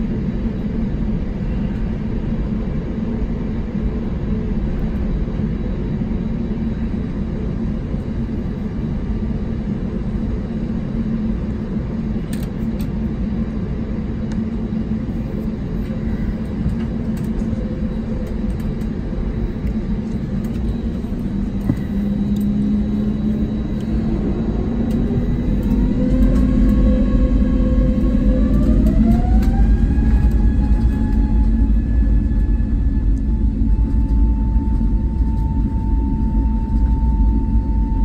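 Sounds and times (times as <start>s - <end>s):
jet engine whine: 0.0s - 38.0s
low engine rumble: 0.0s - 38.0s.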